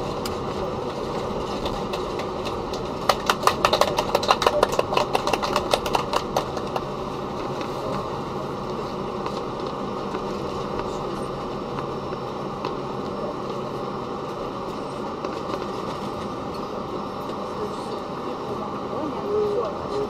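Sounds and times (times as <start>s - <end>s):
jet engine rush: 0.0s - 20.0s.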